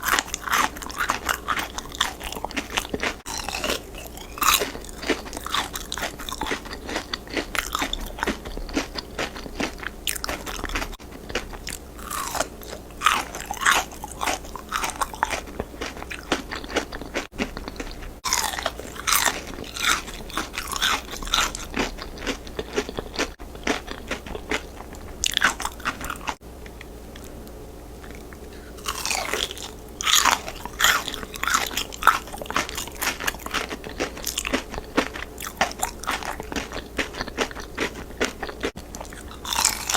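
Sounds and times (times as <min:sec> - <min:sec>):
crunching fried chicken: 0:00.0 - 0:27.4, 0:28.0 - 0:39.9.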